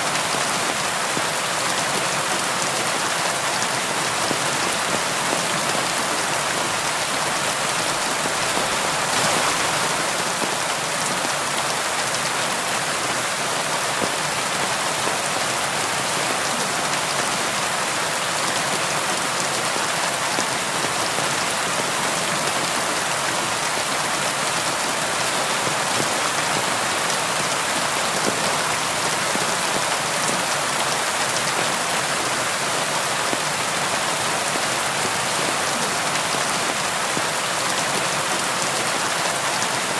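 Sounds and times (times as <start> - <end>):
rain pattering on a window: 0.1 - 39.9.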